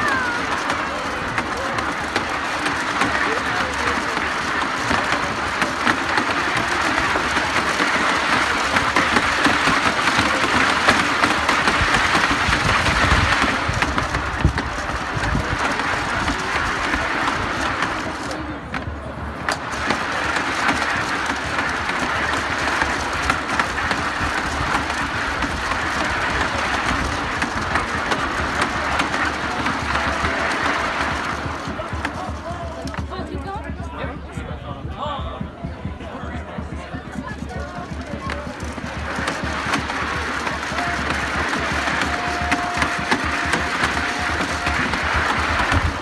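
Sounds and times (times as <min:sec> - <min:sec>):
ice shaver grinding ice: 0:00.0 - 0:18.6, 0:19.5 - 0:33.2, 0:37.8 - 0:46.0
rumble of turning wheel: 0:00.0 - 0:46.0.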